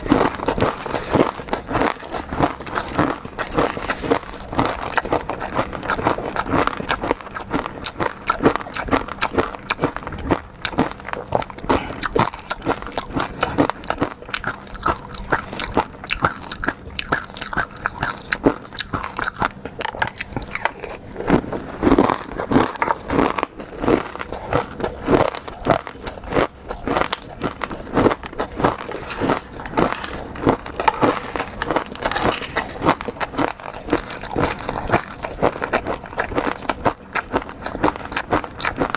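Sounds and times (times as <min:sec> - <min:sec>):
wet chewing and smacking: 0:00.0 - 0:38.9
seafood crackling clicks: 0:00.3 - 0:38.9.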